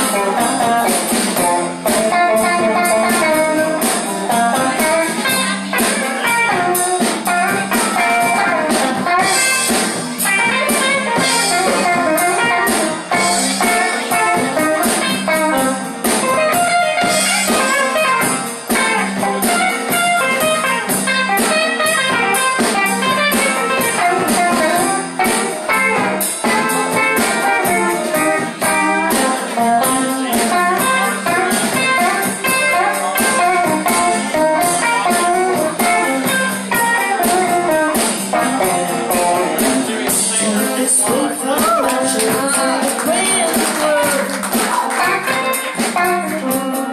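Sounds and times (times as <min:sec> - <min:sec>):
blues band playing: 0:00.0 - 0:46.9.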